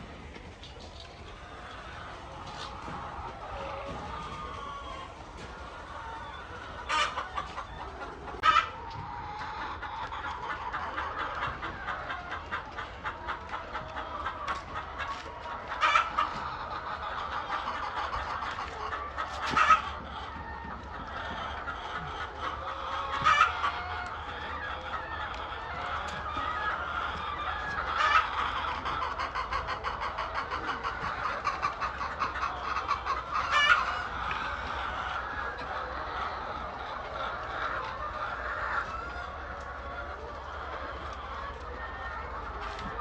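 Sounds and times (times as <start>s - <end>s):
chickens clucking: 0.0s - 43.0s
louder chicken calls: 0.0s - 43.0s.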